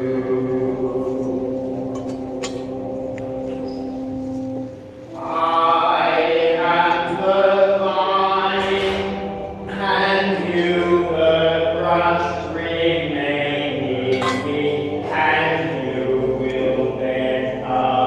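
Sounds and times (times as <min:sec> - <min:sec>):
slow sacred chant singing: 0:00.0 - 0:18.0.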